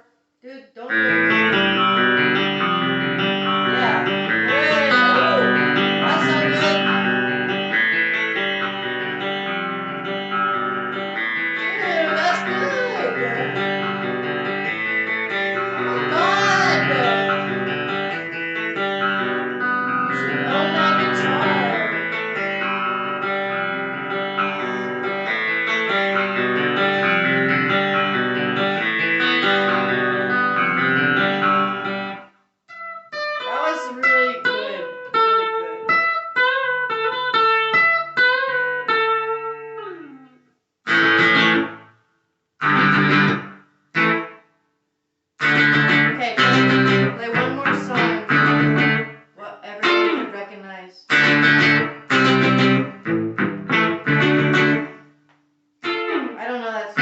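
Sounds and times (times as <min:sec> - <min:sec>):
electric guitar with bent notes: 0:00.8 - 0:41.9, 0:42.6 - 0:44.4, 0:45.4 - 0:50.4, 0:51.1 - 0:55.2, 0:55.8 - 0:56.4.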